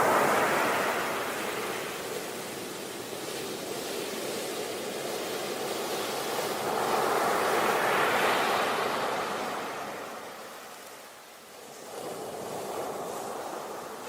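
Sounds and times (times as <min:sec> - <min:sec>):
sea waves washing on beach: 0:00.0 - 0:14.0.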